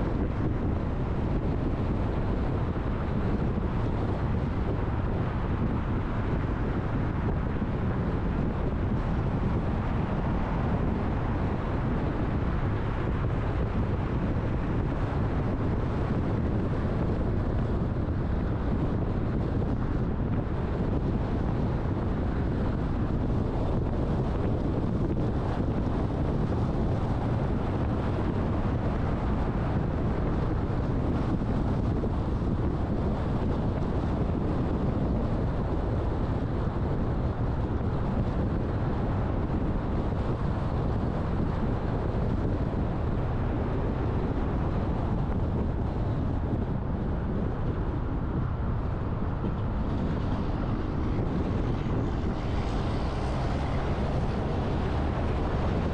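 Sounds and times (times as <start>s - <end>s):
car road and wind noise: 0.0s - 55.9s.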